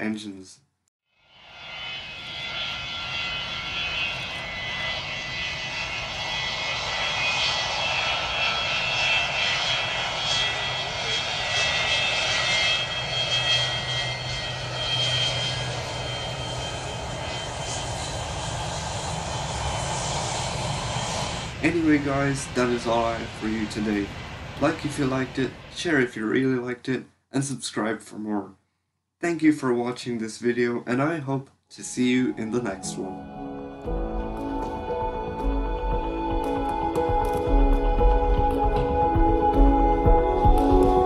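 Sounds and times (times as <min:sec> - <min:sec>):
jet engine roar with whine: 0:01.2 - 0:26.6, 0:31.9 - 0:41.0.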